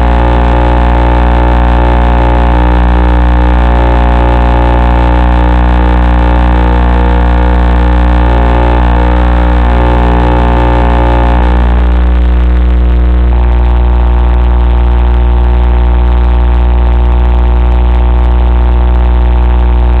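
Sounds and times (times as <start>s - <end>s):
loud electrical buzz: 0.0s - 20.0s.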